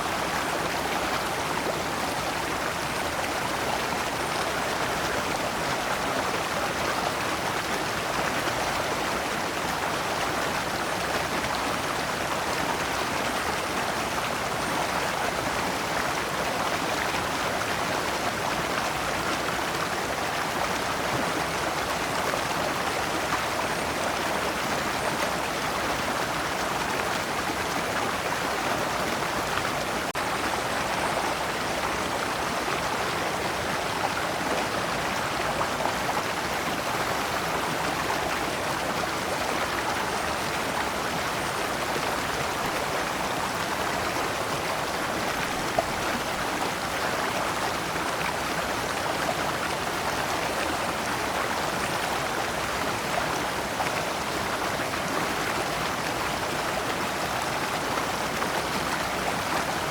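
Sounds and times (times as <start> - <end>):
stream running over rocks: 0.0 - 59.9.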